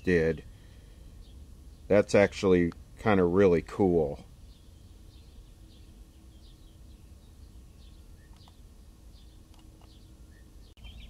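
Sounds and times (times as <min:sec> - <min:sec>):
birds chirping: 0:00.0 - 0:11.0
low steady hum: 0:00.0 - 0:11.0.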